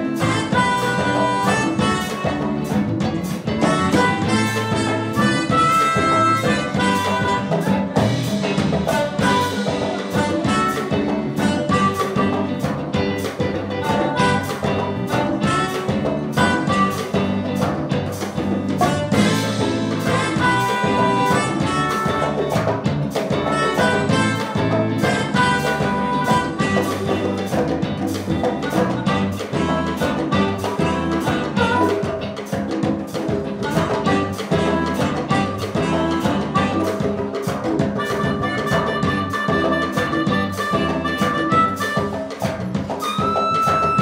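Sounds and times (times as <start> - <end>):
harmonica playing: 0.0 - 17.6, 18.7 - 32.4, 33.5 - 44.0
saxophone: 0.0 - 17.8, 18.7 - 32.8, 33.4 - 44.0
drum kit beat: 0.0 - 44.0
guitar: 0.0 - 44.0.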